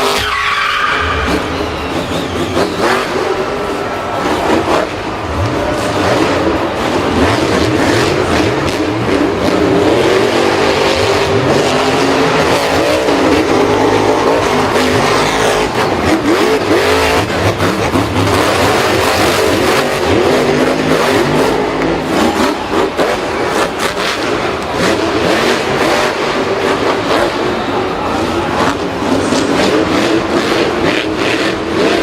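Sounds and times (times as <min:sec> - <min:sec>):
vehicle engines revving: 0:00.0 - 0:32.0.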